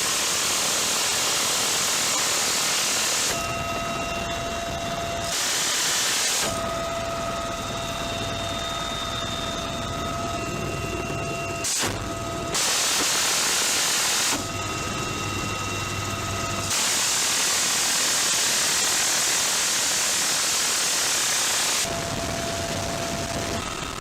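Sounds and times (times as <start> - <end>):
helicopter running: 0.0 - 24.0.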